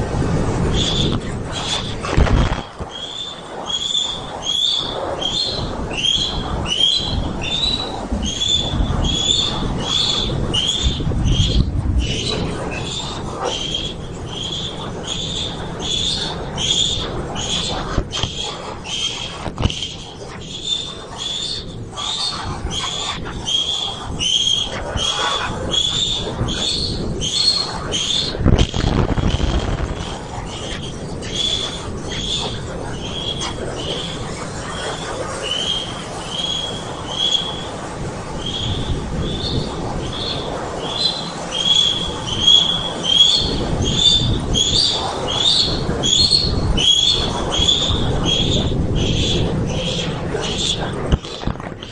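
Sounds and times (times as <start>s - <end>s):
crackling interference: 0.0s - 51.9s
osprey whistled calls: 0.7s - 51.9s.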